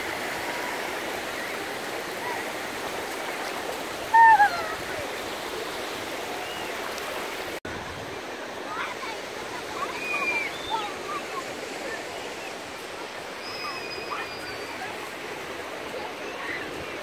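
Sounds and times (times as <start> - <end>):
surf washing over sand: 0.0 - 17.0.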